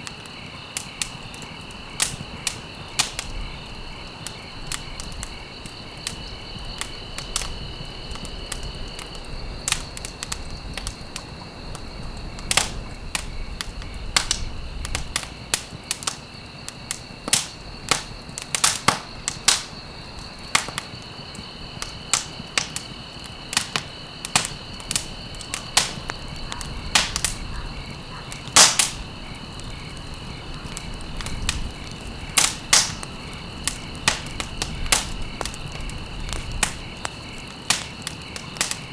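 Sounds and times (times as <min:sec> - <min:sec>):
fireplace wood crackling: 0:00.0 - 0:38.9
sharp pops of burning wood: 0:00.0 - 0:38.9.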